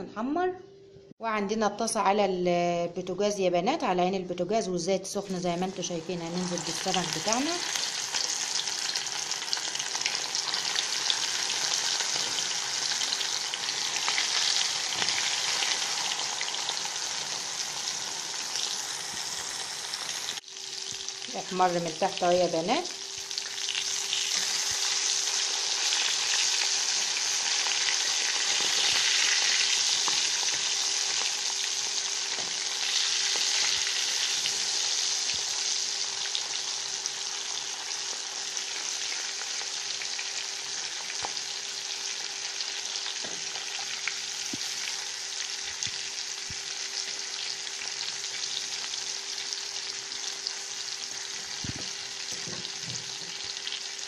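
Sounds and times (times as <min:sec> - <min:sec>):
fish sizzling in hot oil: 0:05.4 - 0:54.0.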